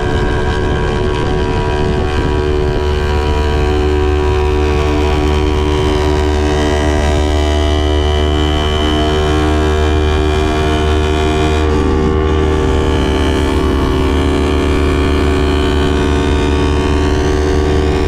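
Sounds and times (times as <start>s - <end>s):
motorcycle engine cruising: 0.0s - 18.0s
wind rumbling over microphone: 0.0s - 18.0s.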